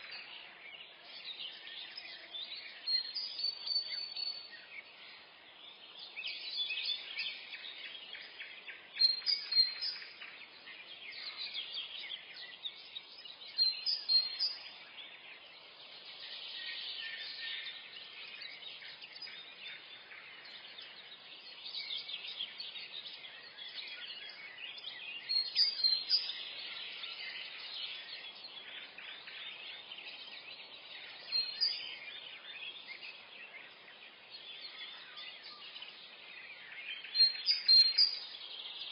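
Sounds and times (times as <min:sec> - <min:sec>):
faint steady hiss: 0:00.0 - 0:38.9
songbirds singing and chirping: 0:00.0 - 0:38.9.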